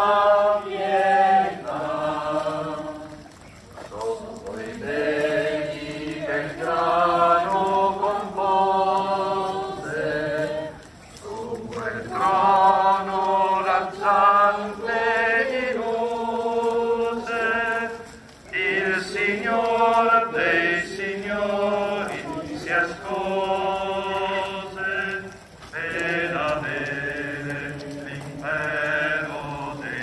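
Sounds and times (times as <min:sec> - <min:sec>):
crowd singing a hymn: 0:00.0 - 0:30.0.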